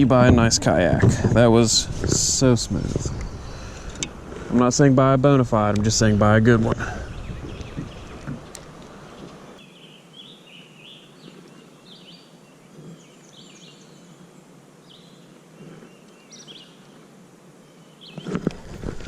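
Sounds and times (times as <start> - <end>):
songbird chirping: 0.0 - 18.5
faint background hiss: 0.0 - 19.0.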